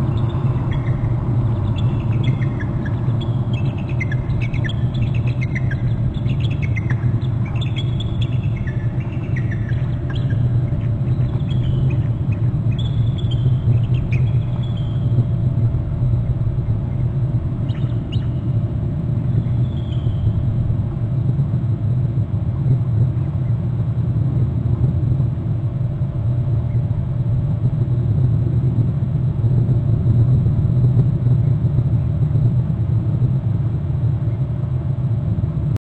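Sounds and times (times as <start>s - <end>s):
wind buffeting microphone: 0.0s - 35.6s.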